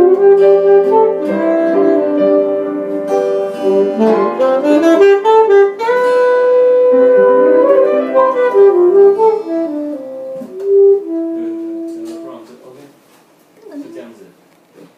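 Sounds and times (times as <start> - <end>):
jazz band playing: 0.0 - 12.5.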